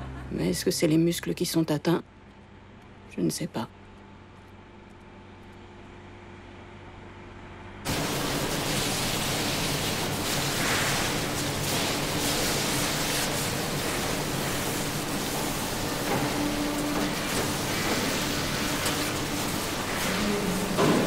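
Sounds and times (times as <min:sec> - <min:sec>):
machinery low hum: 0:00.0 - 0:21.0.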